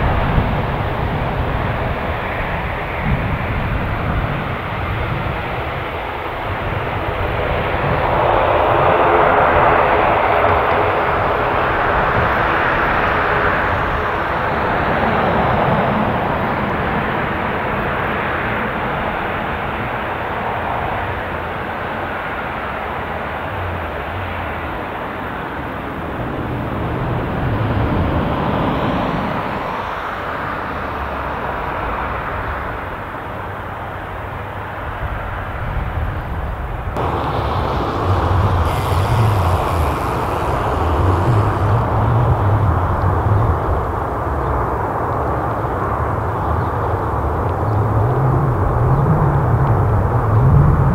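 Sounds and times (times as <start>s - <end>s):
aircraft engines rumbling: 0.0s - 50.9s.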